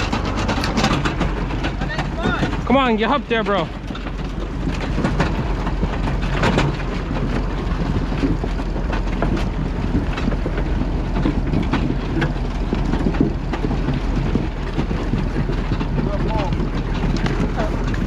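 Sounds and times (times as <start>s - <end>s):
harvester engine drone: 0.0s - 18.0s
potatoes and stones clattering: 0.0s - 18.0s.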